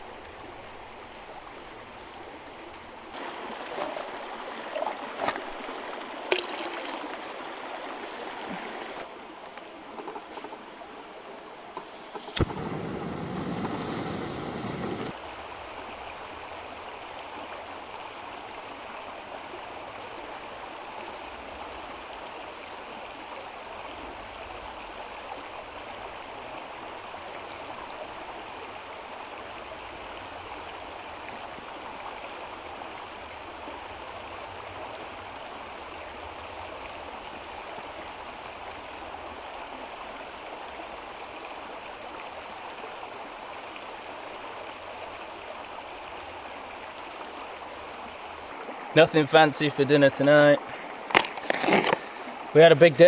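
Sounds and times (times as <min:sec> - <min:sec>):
deep water rush: 0:00.0 - 0:53.0
stream rushing and gurgling: 0:00.0 - 0:53.0.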